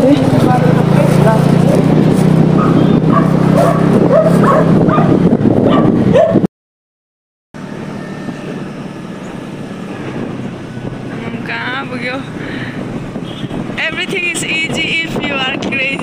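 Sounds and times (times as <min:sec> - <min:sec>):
loud motorcycle engine: 0:00.0 - 0:06.5, 0:07.6 - 0:16.0
wind: 0:00.0 - 0:06.5, 0:07.6 - 0:16.0.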